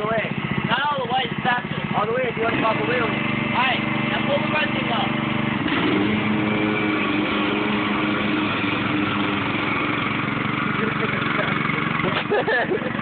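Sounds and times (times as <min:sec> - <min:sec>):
riding lawn mower engine running: 0:00.0 - 0:13.0.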